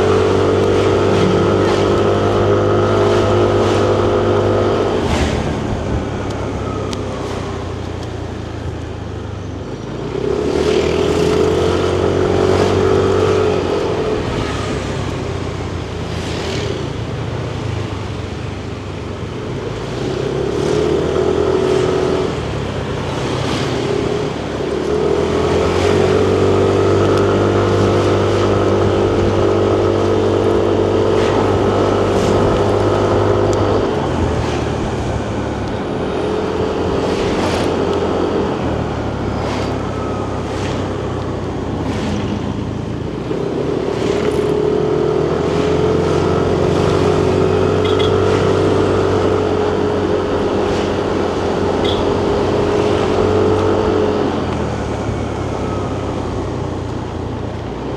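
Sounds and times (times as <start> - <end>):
road and wind noise: 0.0 - 57.9
scooter engine: 0.0 - 57.9.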